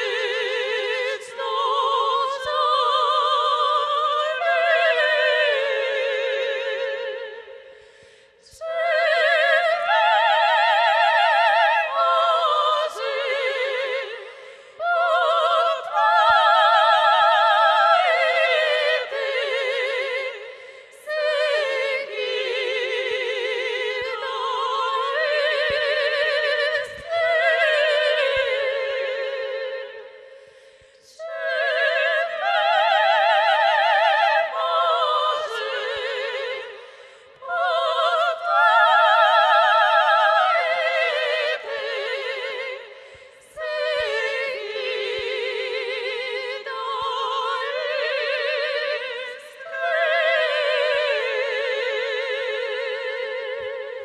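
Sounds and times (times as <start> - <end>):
operatic soprano singing: 0.0 - 54.0
women's choir singing: 0.0 - 54.0.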